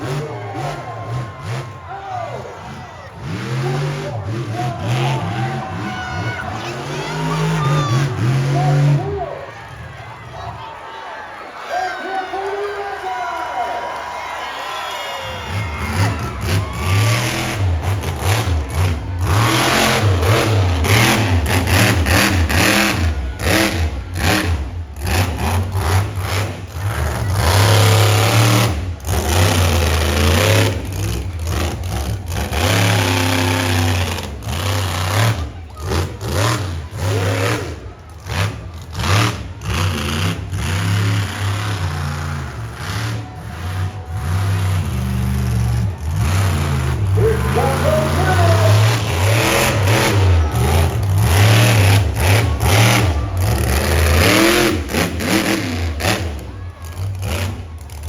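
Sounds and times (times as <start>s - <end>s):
monster truck engine revving: 0.0s - 10.6s, 13.8s - 58.0s.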